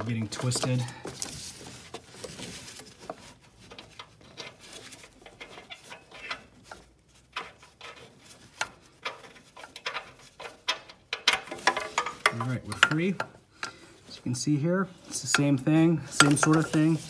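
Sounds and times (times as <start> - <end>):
metallic clicks and scrapes: 2.2 - 14.4, 15.0 - 17.0.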